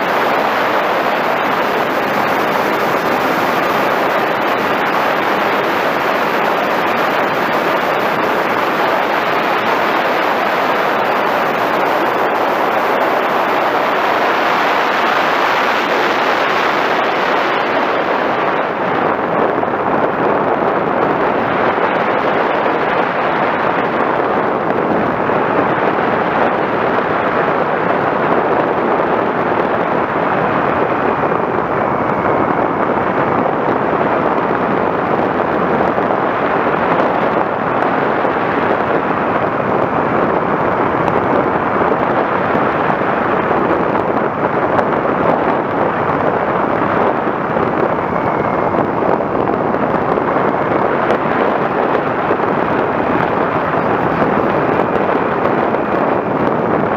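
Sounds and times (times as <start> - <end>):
wind and propeller rushing: 0.0 - 56.9.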